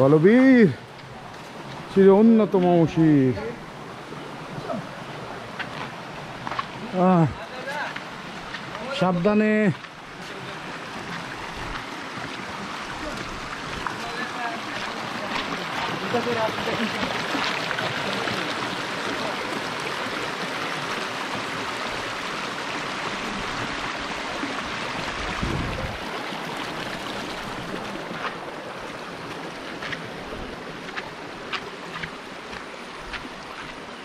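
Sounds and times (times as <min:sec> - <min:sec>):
stream rushing over stones: 0:00.0 - 0:34.0.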